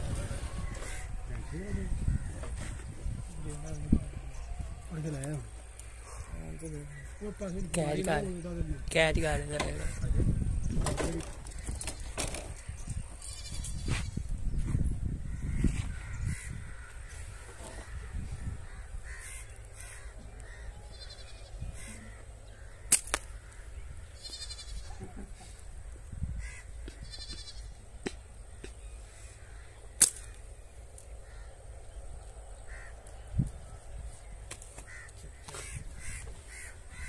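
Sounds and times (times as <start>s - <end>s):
wind rumble on microphone: 0.0s - 5.6s, 6.2s - 22.7s, 23.4s - 28.4s, 31.2s - 37.0s
birds calling: 0.0s - 37.0s.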